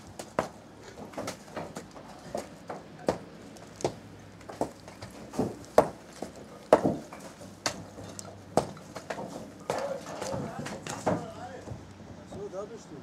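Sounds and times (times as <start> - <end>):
demolition striking blows: 0.0 - 11.8.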